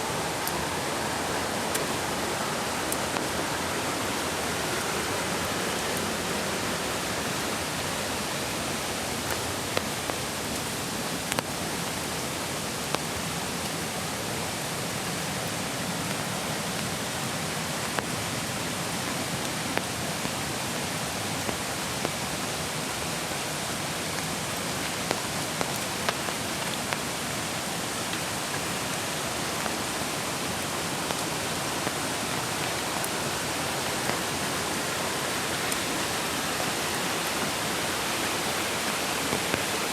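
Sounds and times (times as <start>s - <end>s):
creek water rushing: 0.0s - 39.9s
light rain: 0.0s - 39.9s.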